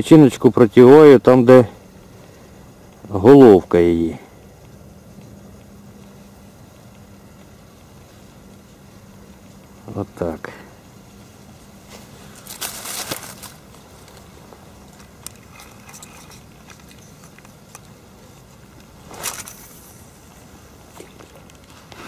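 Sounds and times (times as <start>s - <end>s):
rustling and crackling in dry reeds: 0.0s - 22.0s
steady outdoor hiss: 0.0s - 22.0s.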